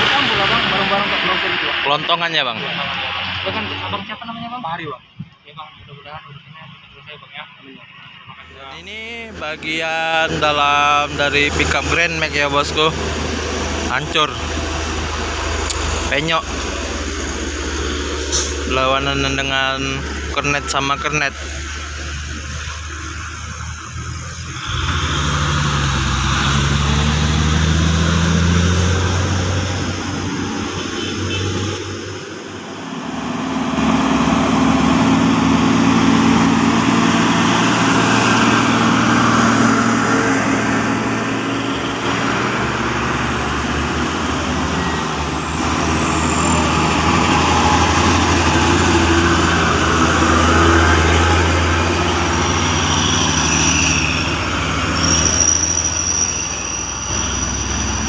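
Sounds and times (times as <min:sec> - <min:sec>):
heavy trucks driving past: 0:00.0 - 0:04.9, 0:07.8 - 0:58.0
tyre noise on road: 0:07.9 - 0:58.0.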